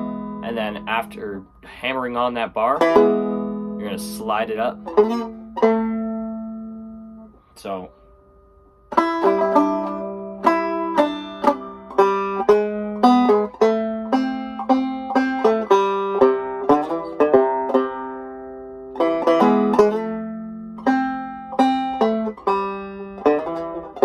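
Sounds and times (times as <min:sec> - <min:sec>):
banjo playing: 0:00.0 - 0:24.0.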